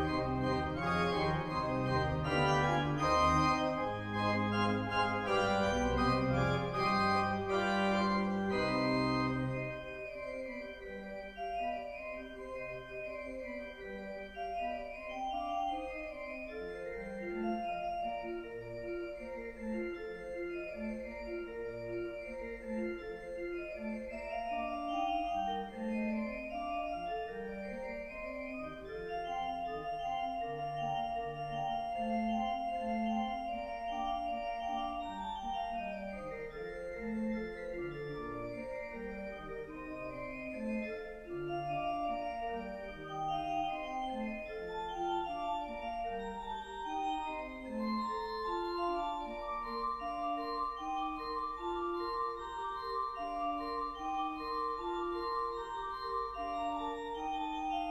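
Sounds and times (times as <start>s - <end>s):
pipe organ playing: 0.0s - 57.9s.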